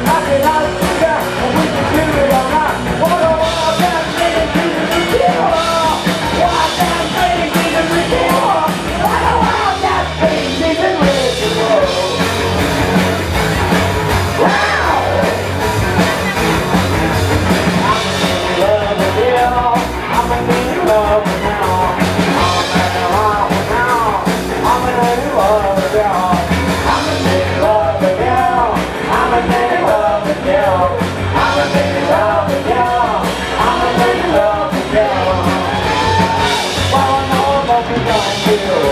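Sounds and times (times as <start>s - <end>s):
sung and yelled vocals: 0.0s - 13.0s, 14.3s - 16.6s, 17.6s - 38.9s
drum kit: 0.0s - 38.9s
electric bass: 0.0s - 38.9s.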